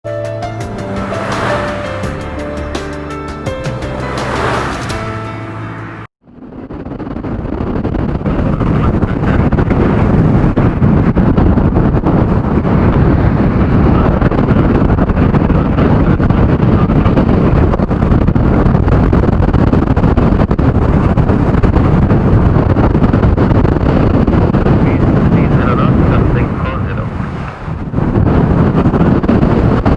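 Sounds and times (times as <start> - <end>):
wind buffeting microphone: 4.2 - 29.9.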